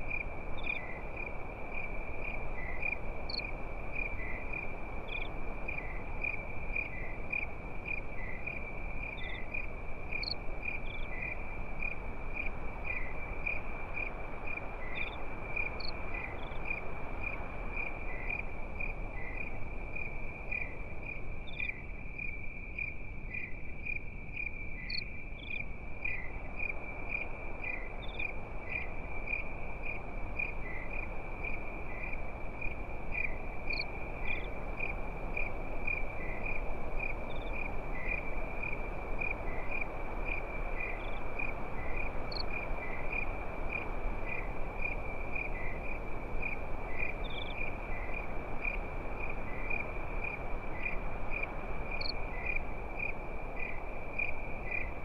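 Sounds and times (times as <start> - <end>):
campfire hiss: 0.0 - 55.0
crickets chirping: 0.0 - 55.0.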